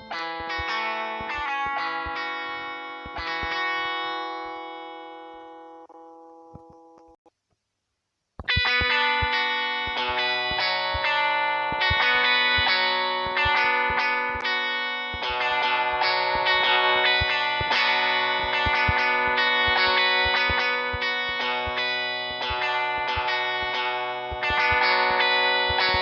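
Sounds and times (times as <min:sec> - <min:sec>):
sharp percussive strikes: 0:00.0 - 0:04.2, 0:08.4 - 0:26.0
plucked guitar with effects: 0:00.0 - 0:07.2, 0:08.4 - 0:26.0.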